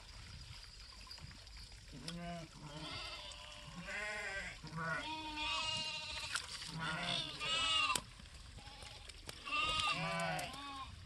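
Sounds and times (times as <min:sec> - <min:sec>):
sheep and goats bleating: 0:02.0 - 0:11.0.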